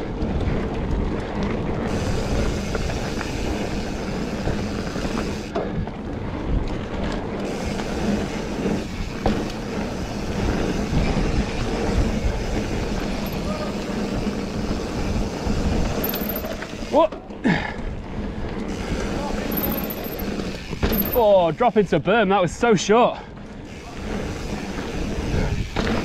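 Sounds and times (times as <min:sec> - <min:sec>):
bike rattle: 0:00.0 - 0:21.8, 0:23.5 - 0:26.0
bike tyres on pebbles: 0:00.0 - 0:26.0.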